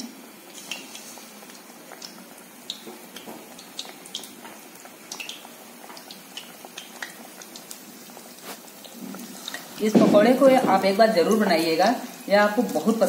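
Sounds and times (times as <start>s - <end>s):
oil sizzling with pops: 0.0s - 13.0s.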